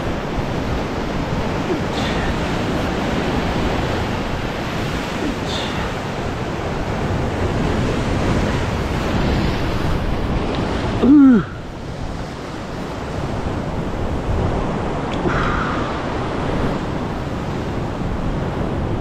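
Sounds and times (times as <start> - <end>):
surf crashing over rocks: 0.0 - 19.0
wind on microphone: 0.0 - 19.0.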